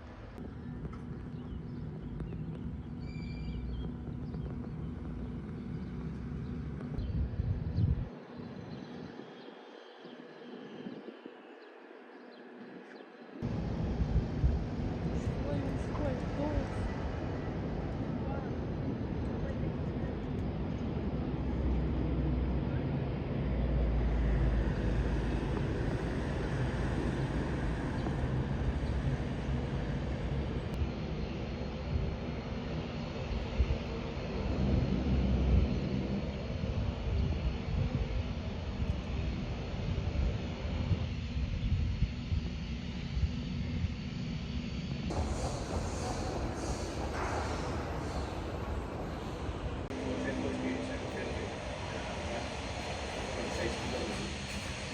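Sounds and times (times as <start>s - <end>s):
turboprop airliner rumble: 0.0s - 54.9s.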